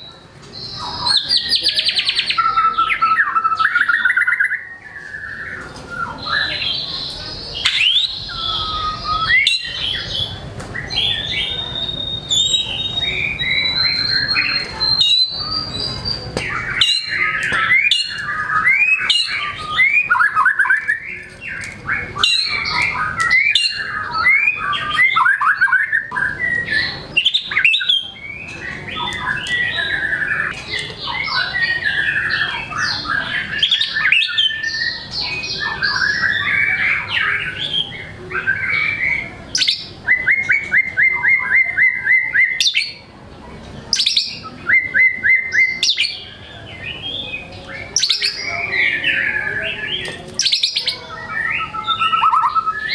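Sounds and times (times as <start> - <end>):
songbird singing varied phrases: 0.0 - 43.1, 43.8 - 52.9.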